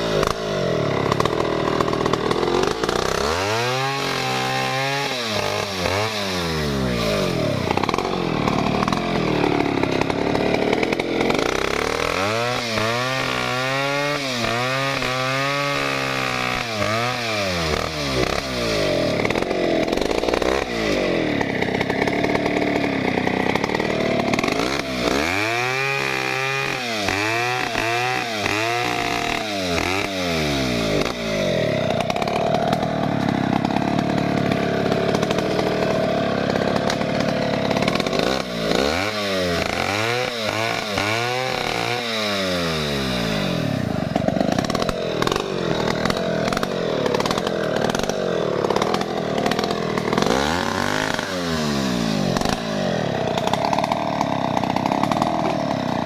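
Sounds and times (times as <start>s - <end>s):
chainsaw cutting through log: 0.0s - 56.0s.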